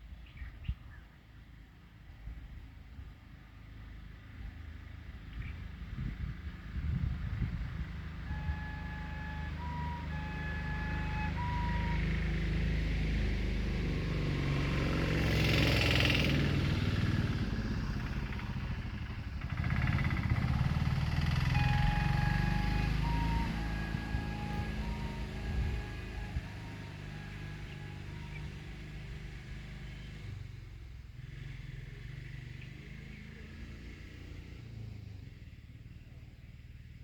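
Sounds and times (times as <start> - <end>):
vehicle engine rumbling: 0.3 - 37.0.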